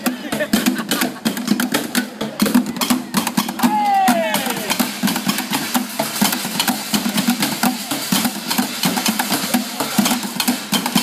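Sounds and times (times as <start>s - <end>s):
drumming on barrels and cans: 0.0s - 11.0s.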